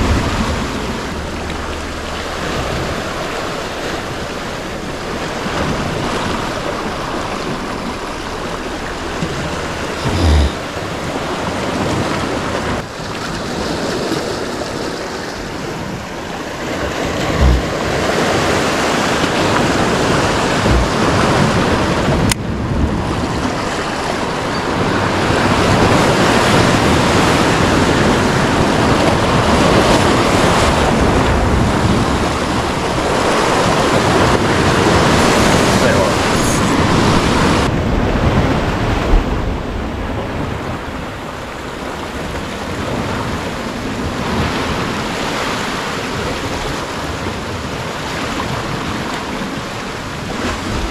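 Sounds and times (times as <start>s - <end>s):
surf breaking against rocks: 0.0s - 50.9s
wind buffeting microphone: 0.0s - 50.9s.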